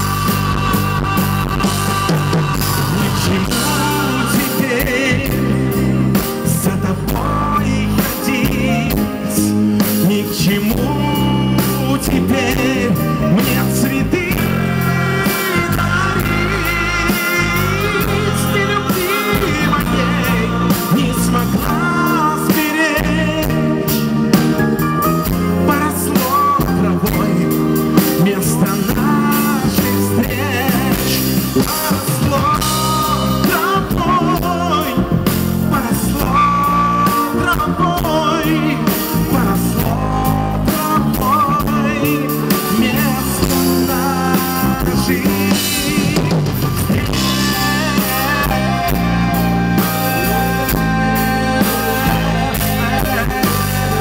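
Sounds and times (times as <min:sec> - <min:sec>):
bass guitar: 0:00.0 - 0:54.0
drum kit steady beat: 0:00.0 - 0:54.0
electric guitars: 0:00.0 - 0:54.0
keyboard: 0:00.0 - 0:54.0.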